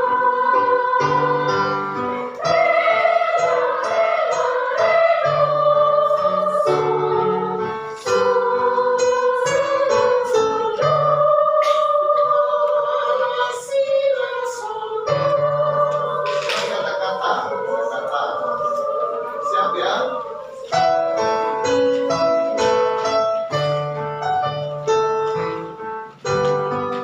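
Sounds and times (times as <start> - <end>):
children's choir singing: 0.0 - 27.0.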